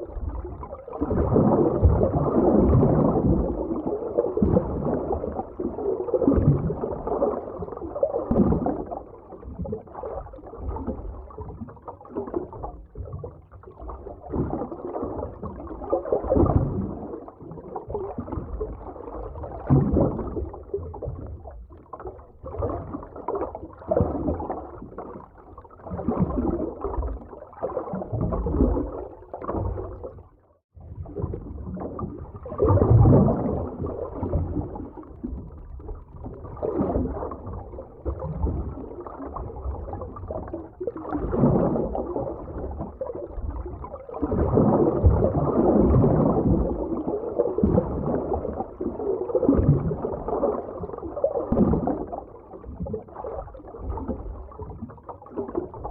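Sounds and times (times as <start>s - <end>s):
muffled underwater water surging: 0.0s - 55.9s.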